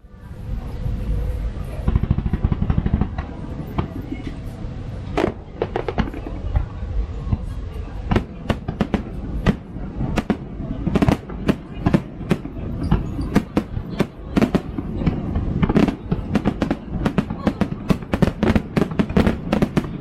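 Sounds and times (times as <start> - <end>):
fireworks bangs: 1.7 - 20.0.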